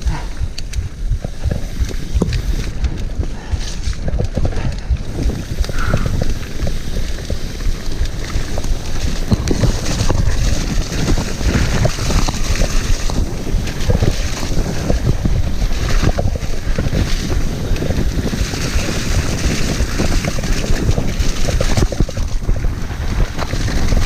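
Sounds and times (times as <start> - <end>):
bike knocks and rattles: 0.0 - 24.0
bike rumbling over rough trail: 0.0 - 24.0
wind buffeting microphone: 0.0 - 24.0.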